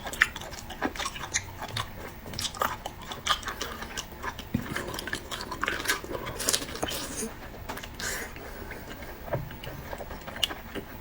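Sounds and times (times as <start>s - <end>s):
chewing and biting food: 0.0s - 11.0s.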